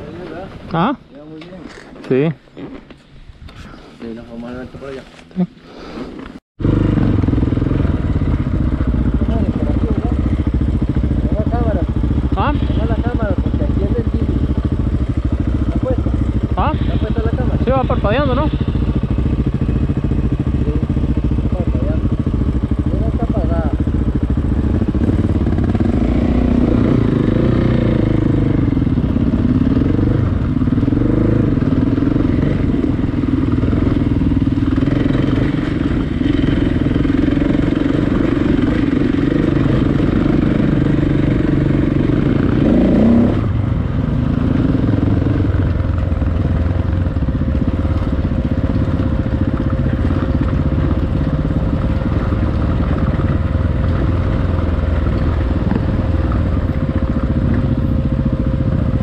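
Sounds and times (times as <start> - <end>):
motorcycle engine revving: 6.6 - 59.0.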